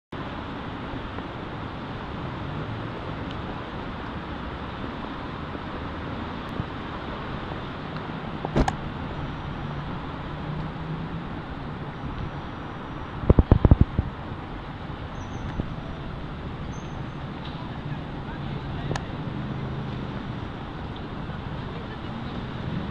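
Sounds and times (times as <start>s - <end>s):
city traffic noise: 0.1s - 22.9s.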